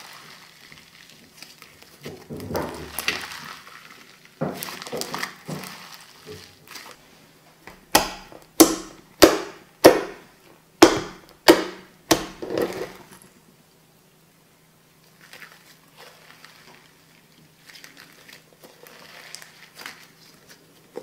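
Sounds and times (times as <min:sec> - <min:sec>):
slime squishing: 0:00.0 - 0:13.2, 0:15.0 - 0:21.0.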